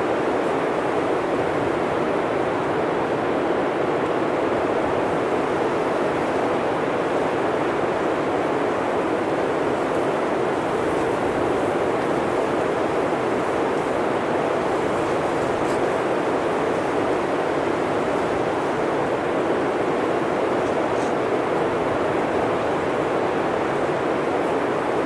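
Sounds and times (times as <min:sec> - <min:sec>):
wind blowing through trees: 0:00.0 - 0:25.0.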